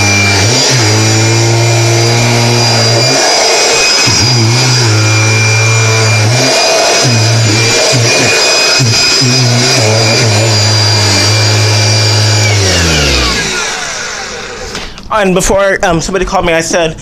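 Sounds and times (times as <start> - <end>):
vacuum cleaner low hum: 0.0 - 14.8
vacuum cleaner motor whine: 0.0 - 14.9.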